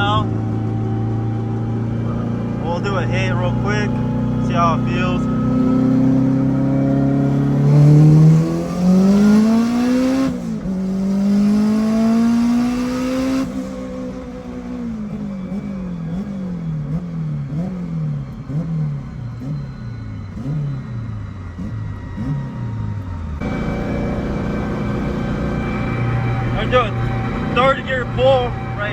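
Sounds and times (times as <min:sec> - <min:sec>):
turbocharged engine accelerating: 0:00.0 - 0:28.9.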